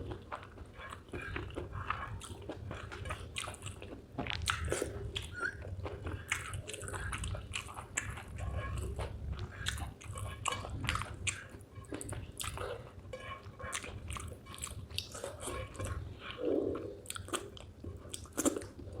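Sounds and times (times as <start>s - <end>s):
mouth chewing with wet smacks: 0.0s - 19.0s.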